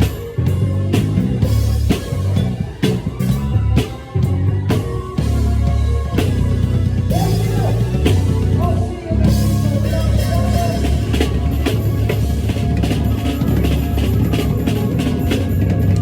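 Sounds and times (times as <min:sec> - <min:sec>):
drums hitting: 0:00.0 - 0:16.0
funk-rock band playing: 0:00.0 - 0:16.0.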